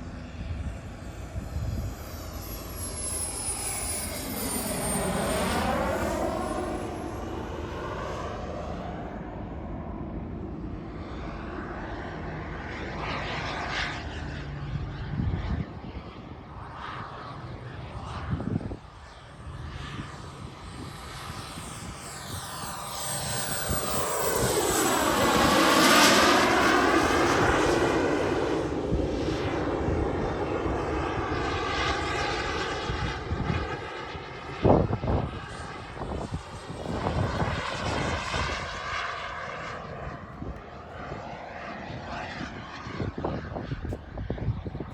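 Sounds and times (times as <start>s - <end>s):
jet turbine whine: 0.0s - 44.9s.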